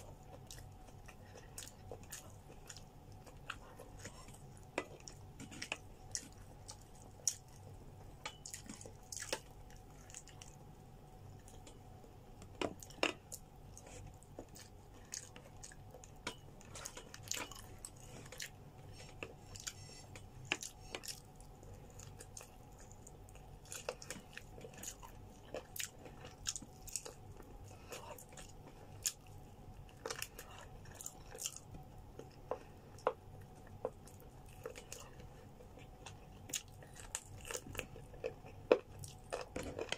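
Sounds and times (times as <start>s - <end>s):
chewing: 0.0s - 39.9s
faint steady hum: 0.0s - 39.9s.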